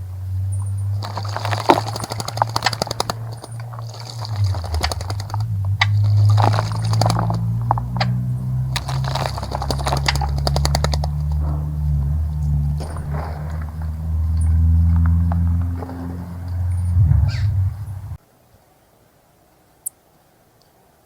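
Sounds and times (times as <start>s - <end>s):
steady low hum: 0.0s - 18.2s
wing flicks: 0.1s - 18.2s
bird splashing in water: 0.2s - 17.7s.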